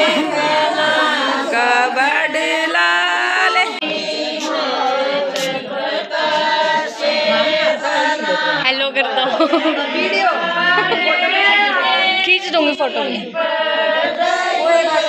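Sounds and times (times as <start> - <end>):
women singing in chorus: 0.0 - 15.0.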